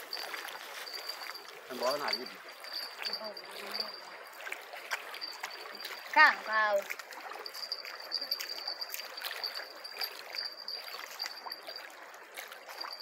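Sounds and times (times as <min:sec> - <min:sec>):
river water lapping: 0:00.0 - 0:13.0.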